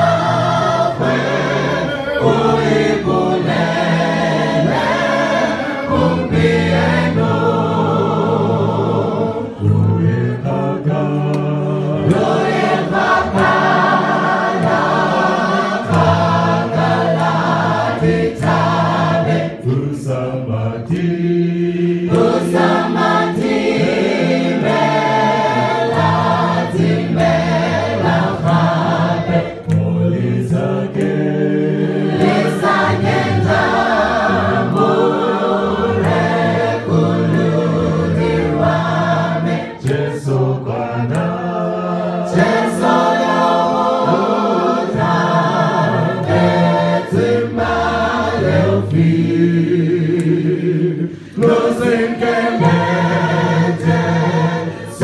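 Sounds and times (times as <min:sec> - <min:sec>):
vocal group singing a hymn: 0:00.0 - 0:55.0.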